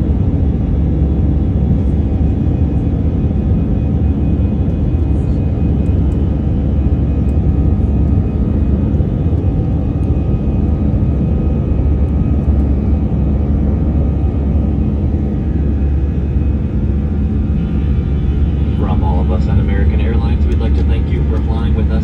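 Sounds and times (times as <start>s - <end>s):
jet engine drone in cabin: 0.0s - 22.0s
faint whining tones: 3.6s - 22.0s.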